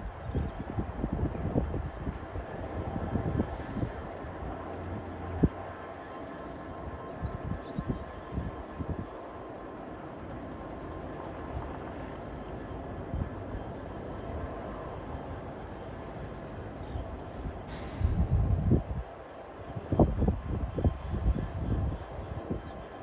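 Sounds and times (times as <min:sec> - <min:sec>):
wind buffeting microphone: 0:00.0 - 0:06.0, 0:06.6 - 0:09.2, 0:13.0 - 0:23.0
diesel locomotive engine rumbling: 0:00.0 - 0:23.0.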